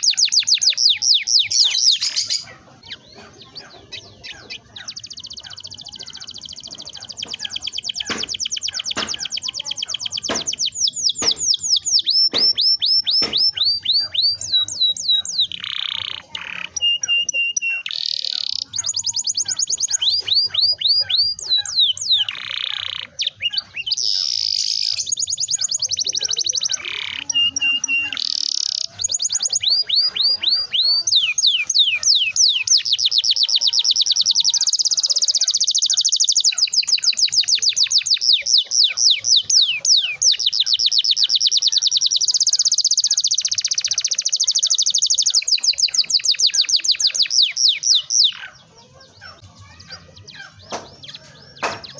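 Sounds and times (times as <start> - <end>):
canary singing rolling trills: 0.0 - 51.9.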